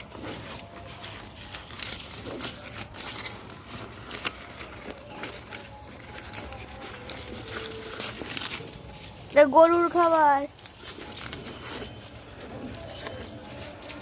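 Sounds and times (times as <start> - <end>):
cow chewing grass: 0.0 - 14.0.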